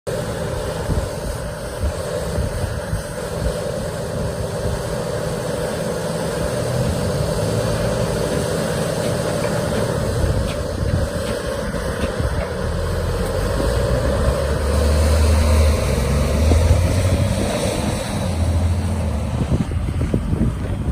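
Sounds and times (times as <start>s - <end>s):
diesel truck engine rumbling: 0.1s - 20.9s.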